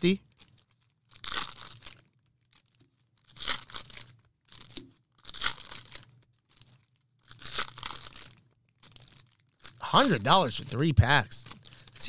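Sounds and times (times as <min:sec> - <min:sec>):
foil wrappers tearing and crinkling: 0:00.3 - 0:12.0.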